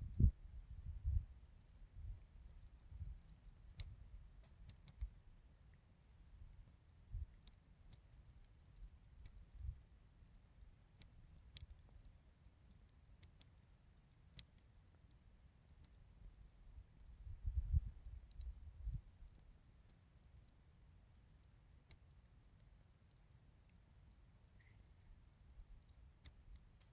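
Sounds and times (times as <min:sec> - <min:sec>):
firewood crackling and popping: 0:00.1 - 0:26.9.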